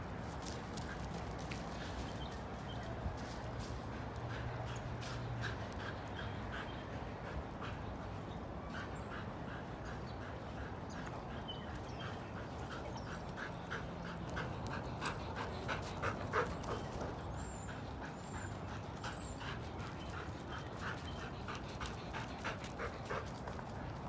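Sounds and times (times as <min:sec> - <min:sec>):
dog panting: 0:03.9 - 0:24.0.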